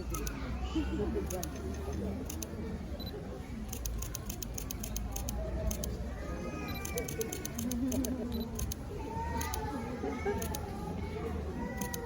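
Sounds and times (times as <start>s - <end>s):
faint chatter of onlookers: 0.0s - 12.0s.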